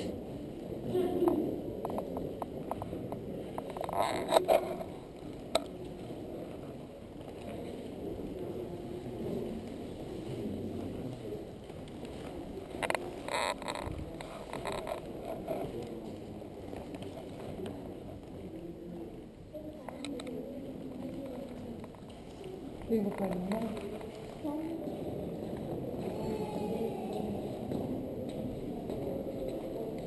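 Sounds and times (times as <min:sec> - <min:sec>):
murmur of visitors: 0:00.0 - 0:30.0.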